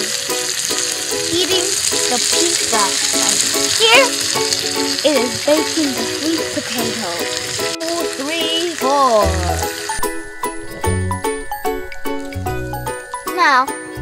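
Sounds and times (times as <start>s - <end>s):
potatoes sizzling in a skillet: 0.0s - 13.5s
background music melody: 0.0s - 14.0s.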